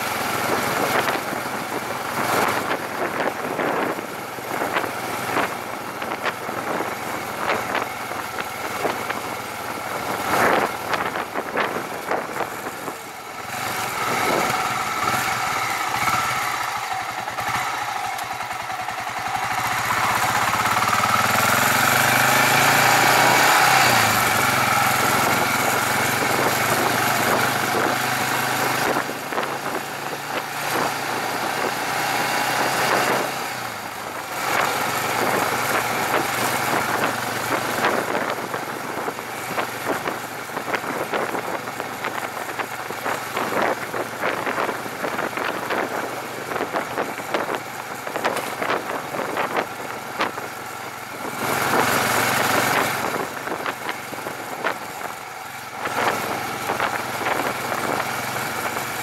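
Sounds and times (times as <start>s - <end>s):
motorcycle engine running: 0.0s - 59.0s
wind gusting on microphone: 0.3s - 59.0s.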